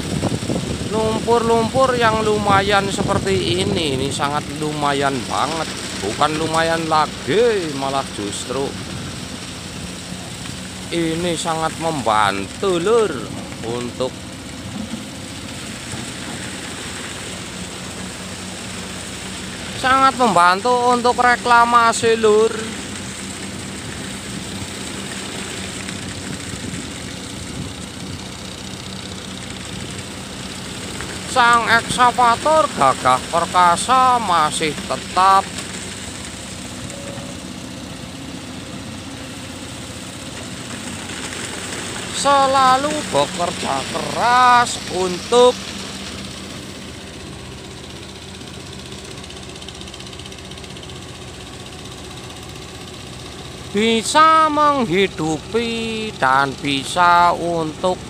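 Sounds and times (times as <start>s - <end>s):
excavator diesel engine humming: 0.0s - 58.0s.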